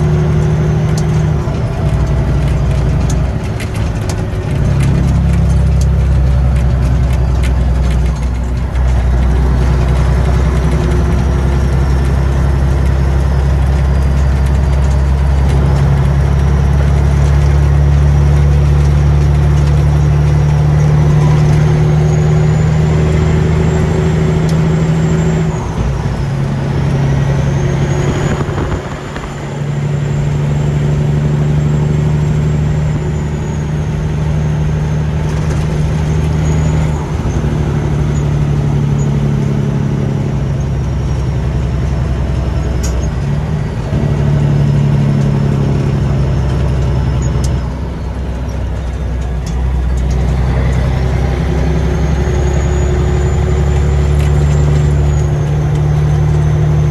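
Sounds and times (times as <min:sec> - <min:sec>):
truck diesel engine pulling: 0:00.0 - 0:56.9.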